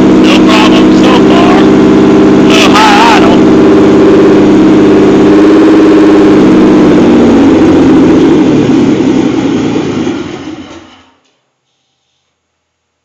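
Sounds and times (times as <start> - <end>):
car engine running rough: 0.0 - 11.2.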